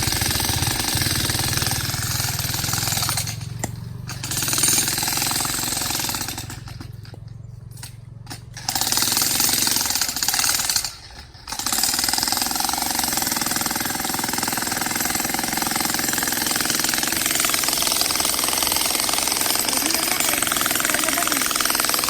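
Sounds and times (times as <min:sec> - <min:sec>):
jackhammer pounding rock: 0:00.0 - 0:22.0.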